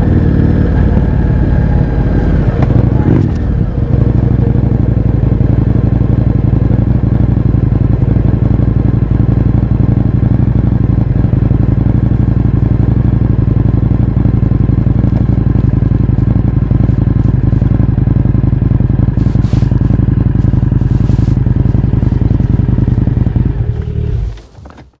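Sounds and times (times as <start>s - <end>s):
motorcycle engine idling: 0.0s - 24.4s.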